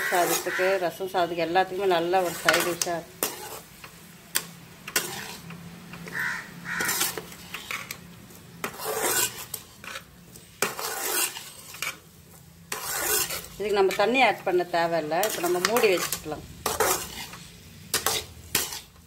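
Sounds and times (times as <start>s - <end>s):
spatula scraping metal pan: 0.0s - 12.1s, 12.7s - 19.0s.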